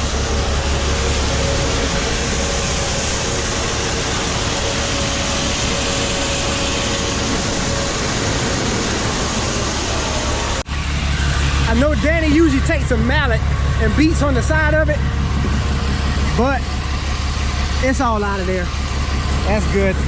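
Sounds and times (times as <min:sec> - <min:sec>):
grain machinery running: 0:00.0 - 0:20.0.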